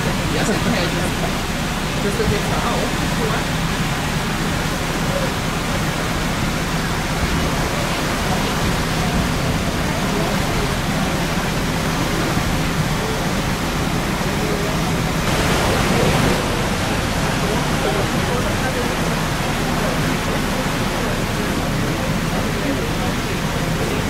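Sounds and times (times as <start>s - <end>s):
water rushing along boat hull: 0.0s - 24.0s.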